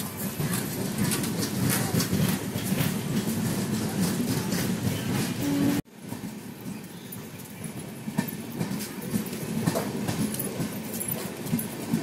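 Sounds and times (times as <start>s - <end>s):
train coaches rumbling past: 0.0s - 12.0s
wheels clicking over rail joints: 0.0s - 12.0s.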